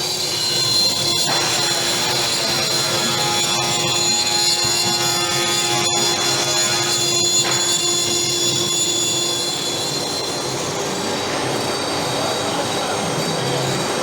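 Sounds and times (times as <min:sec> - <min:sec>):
wood cutting noise: 0:00.0 - 0:12.3.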